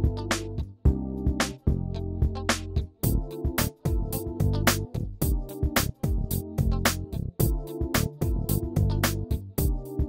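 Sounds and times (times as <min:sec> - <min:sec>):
instrumental music with drum beat: 0:00.0 - 0:10.0.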